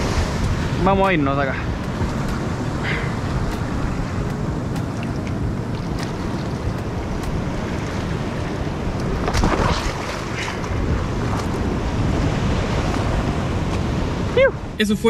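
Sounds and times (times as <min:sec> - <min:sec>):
sea breaking on rocks: 0:00.0 - 0:14.2
wind buffeting microphone: 0:00.0 - 0:14.8.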